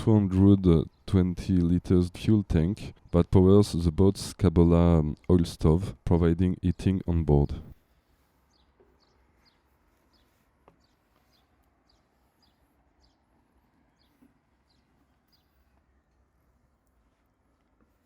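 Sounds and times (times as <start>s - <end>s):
faint bird chirping: 0.0s - 18.0s.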